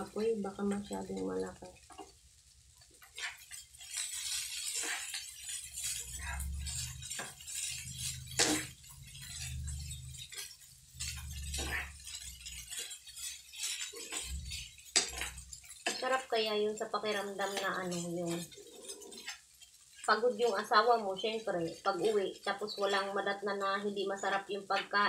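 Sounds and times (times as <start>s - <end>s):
spatula tapping pan: 0.0s - 23.1s
spatula scraping frying pan: 0.0s - 24.9s.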